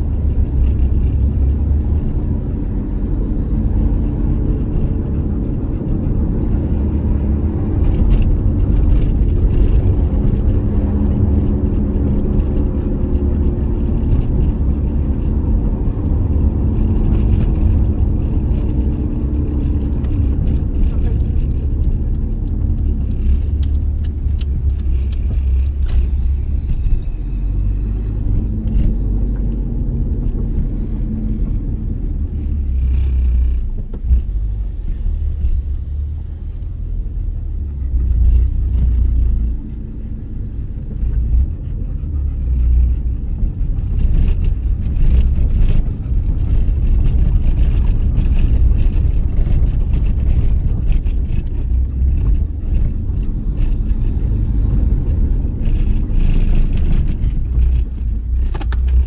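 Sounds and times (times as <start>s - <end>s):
car road and engine rumble: 0.0s - 59.0s
light ticks and rattles: 0.0s - 59.0s.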